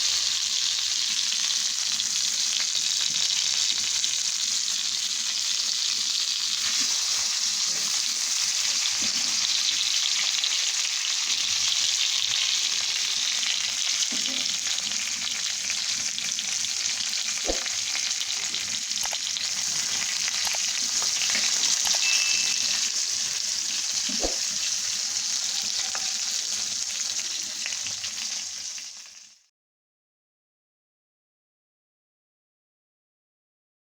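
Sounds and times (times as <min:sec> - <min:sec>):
food sizzling in hot oil: 0:00.0 - 0:29.5.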